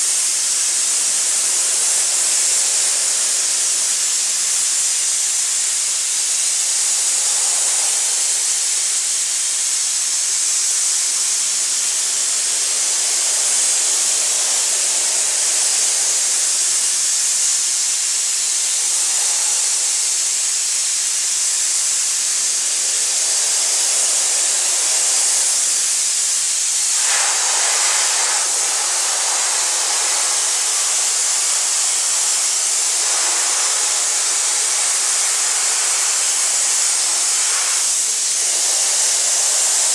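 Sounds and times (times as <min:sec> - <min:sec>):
abrasive blasting hiss: 0:00.0 - 0:39.9.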